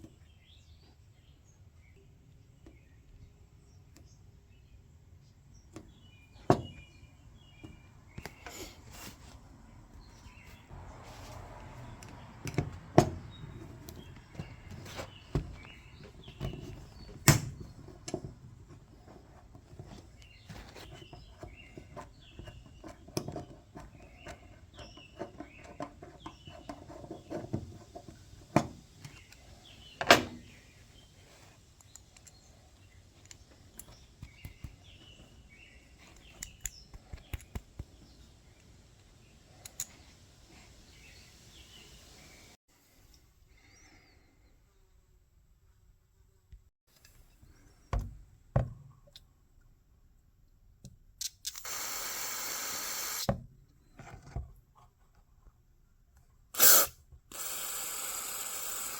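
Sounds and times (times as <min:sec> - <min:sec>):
faint birds chirping: 0:00.0 - 0:49.8.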